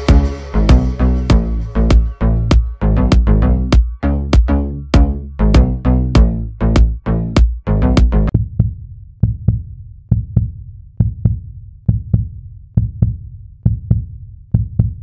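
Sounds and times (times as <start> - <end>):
heartbeat-like double thump music: 0.0 - 15.0.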